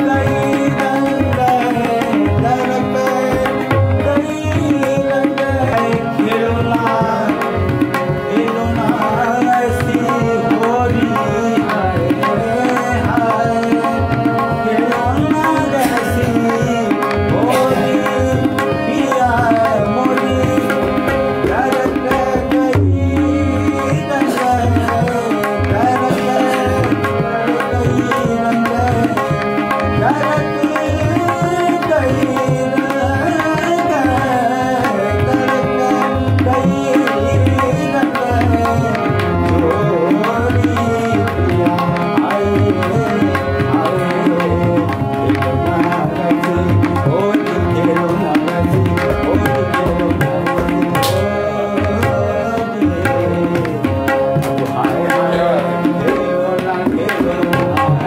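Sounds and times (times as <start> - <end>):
harmonium: 0.0 - 58.0
person singing: 0.0 - 58.0
tabla rhythm: 0.0 - 58.0.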